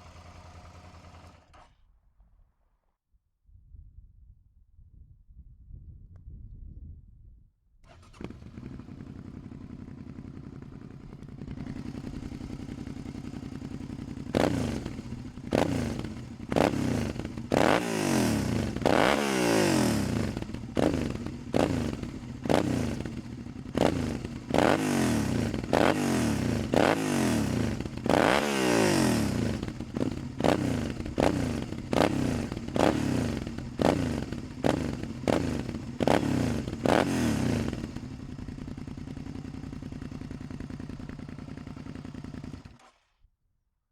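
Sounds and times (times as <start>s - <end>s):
motorcycle engine idling and revving: 0.0s - 1.8s, 7.8s - 43.4s.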